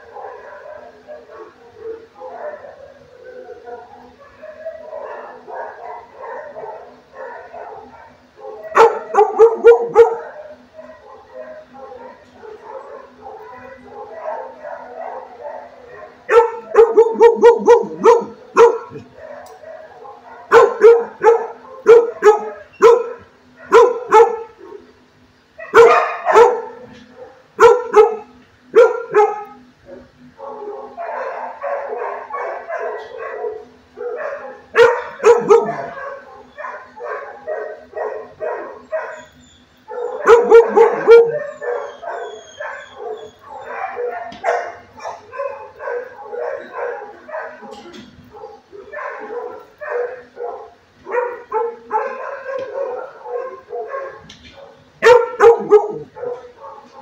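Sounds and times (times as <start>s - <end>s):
dogs barking: 0.0s - 57.0s.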